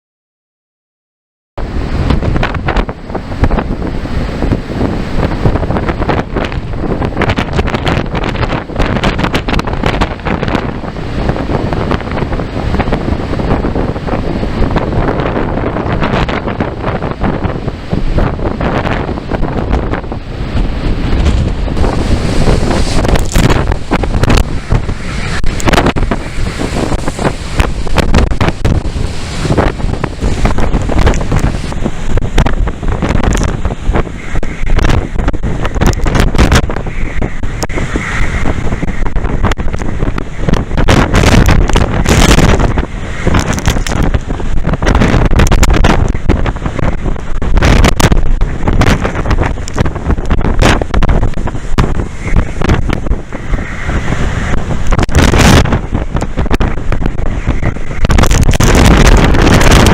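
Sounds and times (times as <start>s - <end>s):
rough surf: 1.6s - 59.9s
wind buffeting microphone: 1.6s - 59.9s.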